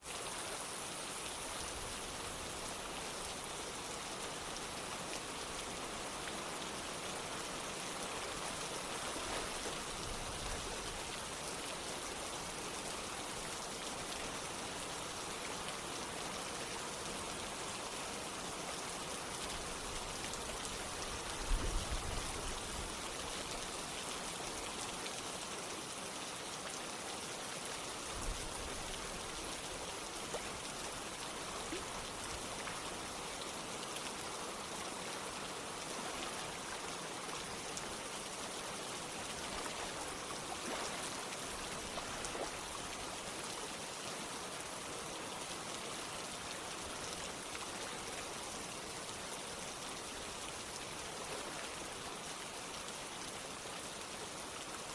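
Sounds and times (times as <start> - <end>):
rain falling: 0.0 - 54.9
running water: 0.0 - 54.9.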